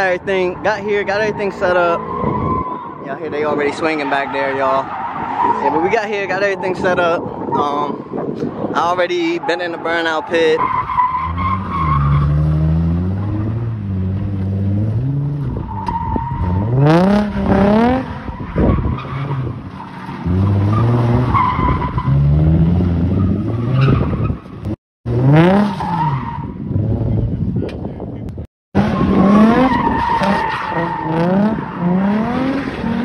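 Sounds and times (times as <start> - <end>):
car engines revving: 0.0 - 27.6, 28.7 - 33.0.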